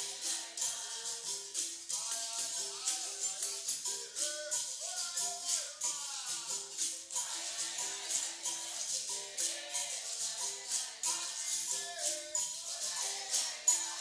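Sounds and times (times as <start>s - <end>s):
pandeiro jingles: 0.0s - 14.0s.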